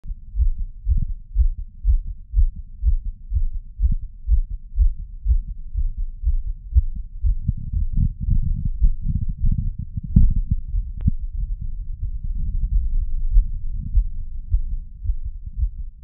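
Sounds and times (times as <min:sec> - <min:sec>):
fast heartbeat thumps: 0:00.1 - 0:16.0.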